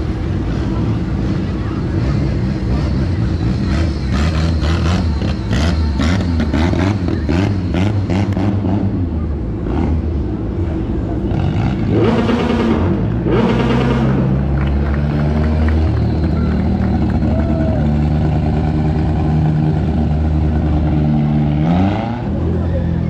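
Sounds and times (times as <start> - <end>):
car engine revving hard: 2.0 - 10.1, 11.2 - 17.2, 18.2 - 22.5.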